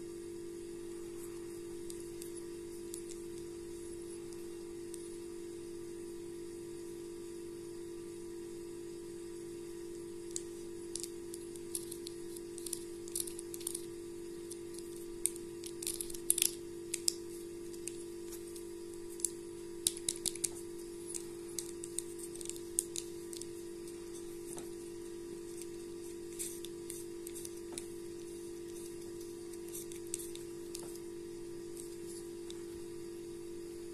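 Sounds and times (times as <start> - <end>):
steady hum: 0.0 - 33.9.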